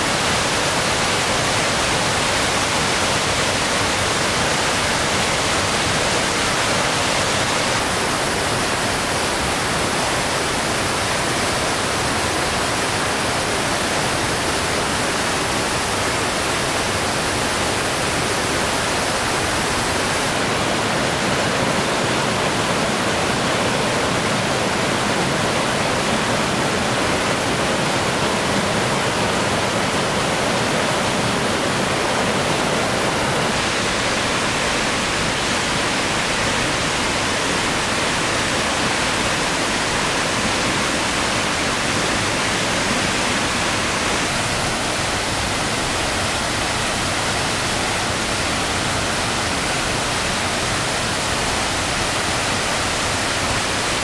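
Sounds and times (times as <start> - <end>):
water cascading over rocks: 0.0 - 54.0.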